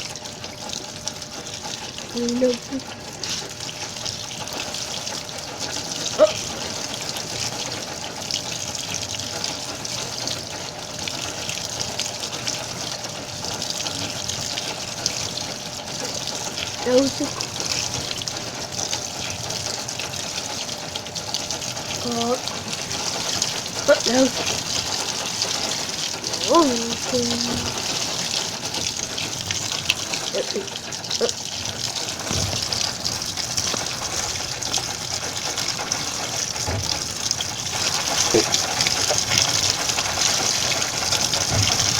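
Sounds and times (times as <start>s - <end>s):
water pouring into washing machine: 0.0s - 41.9s.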